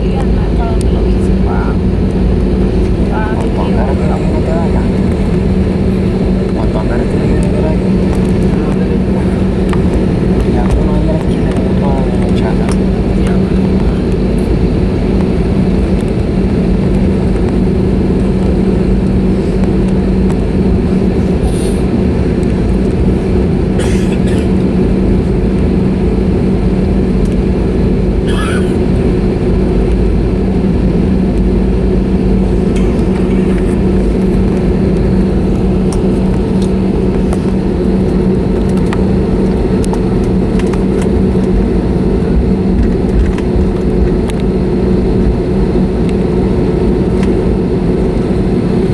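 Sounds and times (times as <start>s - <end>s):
airplane cabin engine hum: 0.0s - 48.9s.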